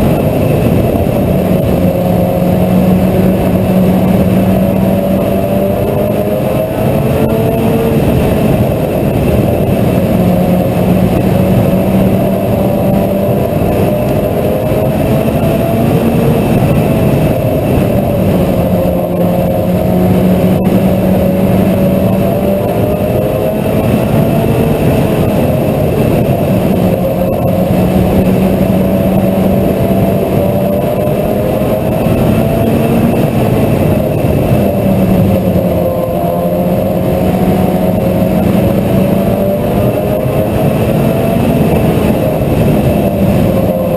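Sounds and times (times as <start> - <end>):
race car engine revving: 0.0 - 43.9.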